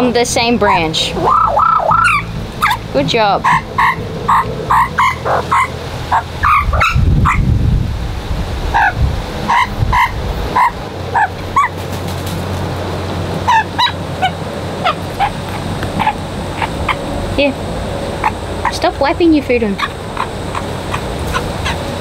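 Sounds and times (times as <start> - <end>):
low rumble: 0.0 - 22.0
magpies squawking: 0.1 - 7.5, 8.7 - 22.0.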